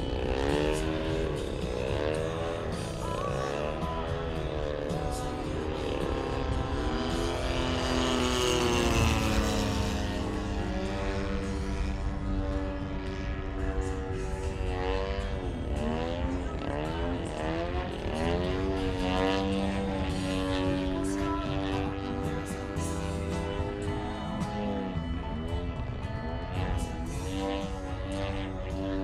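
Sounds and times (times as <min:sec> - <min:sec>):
model airplane motor and propeller: 0:00.0 - 0:29.0.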